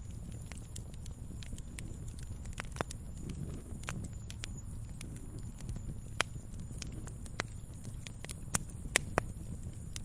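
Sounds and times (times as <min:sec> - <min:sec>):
fire crackling in fireplace: 0:00.0 - 0:10.0.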